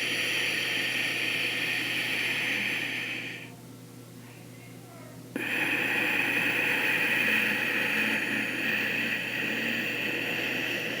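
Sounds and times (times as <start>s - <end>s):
long hissing breath: 0.0s - 3.5s, 5.4s - 11.0s.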